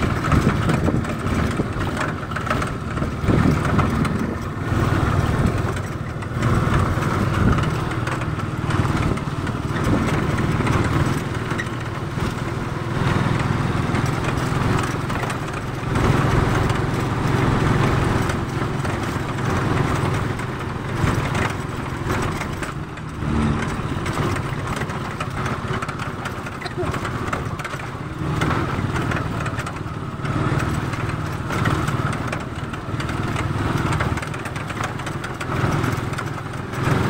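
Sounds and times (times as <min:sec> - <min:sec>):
vehicle engine running: 0:00.0 - 0:37.0
wind and road noise: 0:00.0 - 0:37.0.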